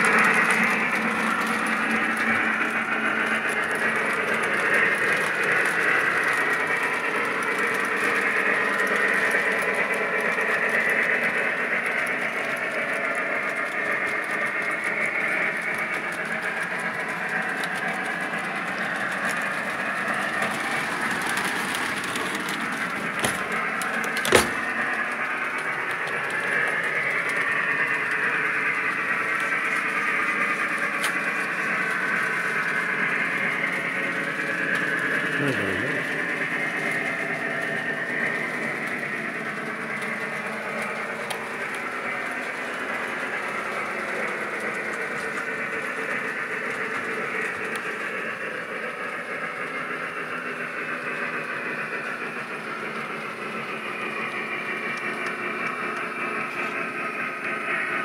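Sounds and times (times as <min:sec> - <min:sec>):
model trains rumbling hum: 0:00.0 - 0:58.0.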